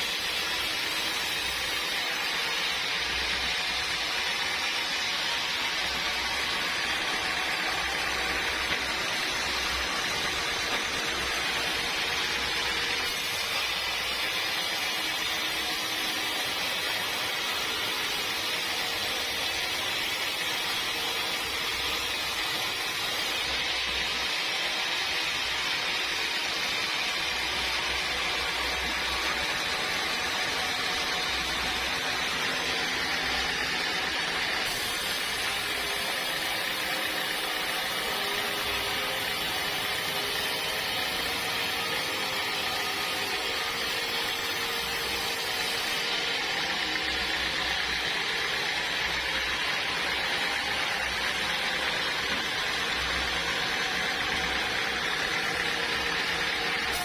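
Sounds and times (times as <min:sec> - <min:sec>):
sawmill machinery hiss and hum: 0:00.0 - 0:57.0.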